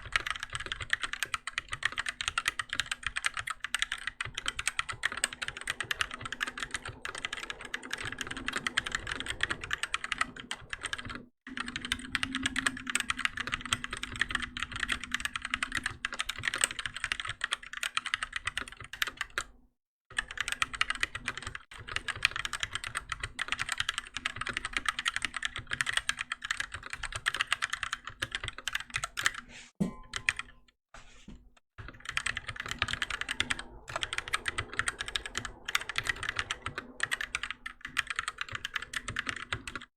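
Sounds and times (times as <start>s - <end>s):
fast typing on mechanical keyboard: 0.0s - 19.5s, 20.1s - 29.5s, 31.8s - 39.9s.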